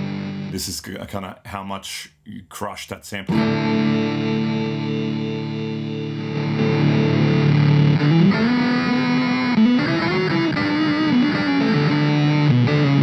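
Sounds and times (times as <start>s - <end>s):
gritty distorted electric guitar: 0.0s - 0.8s, 3.3s - 13.0s.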